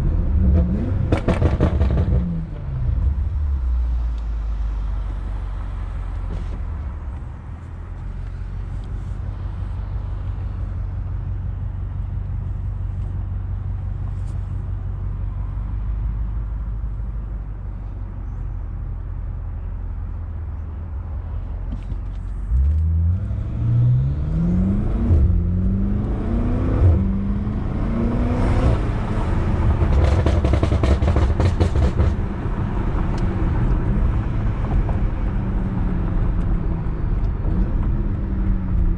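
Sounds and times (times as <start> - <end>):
car engine and loud exhaust: 0.0 - 38.9.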